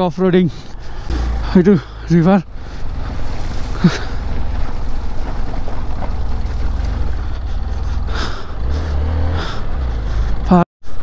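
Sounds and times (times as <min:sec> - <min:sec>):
tyre and road noise: 0:00.0 - 0:11.0
motorcycle engine running: 0:00.6 - 0:10.6.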